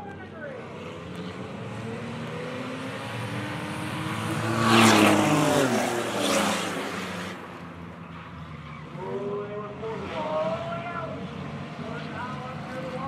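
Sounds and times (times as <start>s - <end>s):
race cars passing at full throttle: 0.0s - 13.0s.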